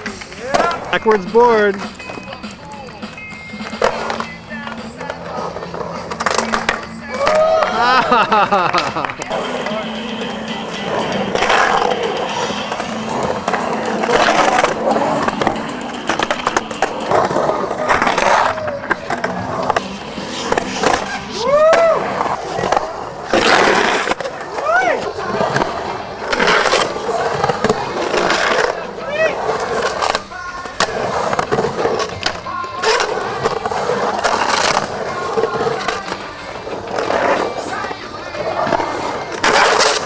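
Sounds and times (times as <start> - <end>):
skateboard clacks: 0.0 - 40.0
skateboard trucks grinding coping: 0.0 - 40.0
skateboard wheels rolling on concrete: 0.0 - 40.0.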